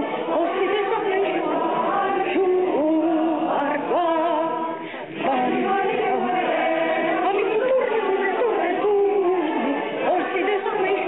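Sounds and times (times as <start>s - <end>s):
choir singing long notes: 0.0s - 11.0s.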